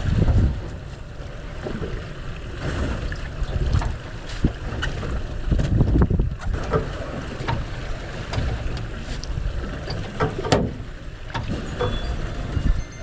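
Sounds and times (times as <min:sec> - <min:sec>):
water lapping at hull: 0:00.0 - 0:13.0
wind buffeting microphone: 0:00.0 - 0:13.0.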